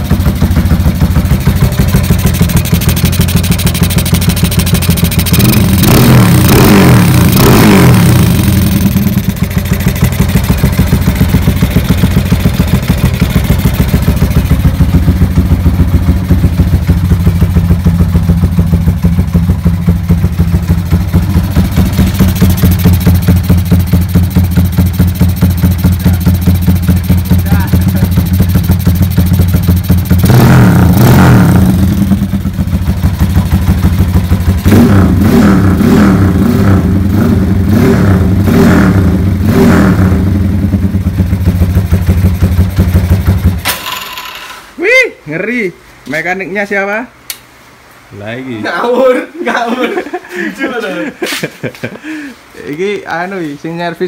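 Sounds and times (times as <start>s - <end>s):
motorcycle engine idling and revving: 0.0s - 44.4s.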